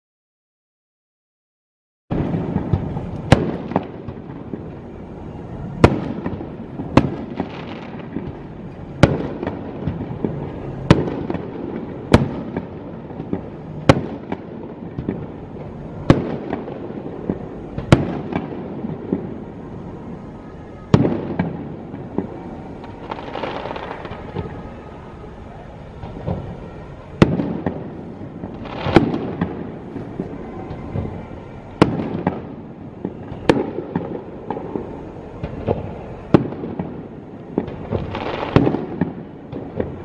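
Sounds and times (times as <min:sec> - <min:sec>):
firework shells booming: 0:02.1 - 0:04.9, 0:05.7 - 0:19.5, 0:20.9 - 0:24.6, 0:25.9 - 0:40.0
firework crackling: 0:02.1 - 0:40.0.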